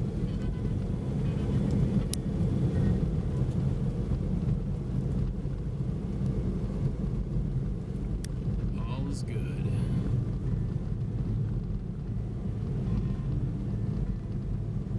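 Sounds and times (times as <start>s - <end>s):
car engine and tyres rumbling: 0.0s - 14.9s.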